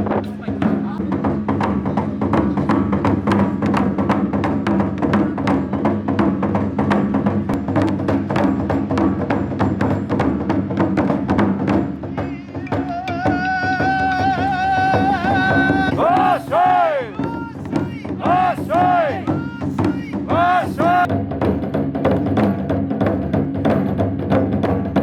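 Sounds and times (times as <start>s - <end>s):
fast sharp percussive beat: 0.0s - 25.0s.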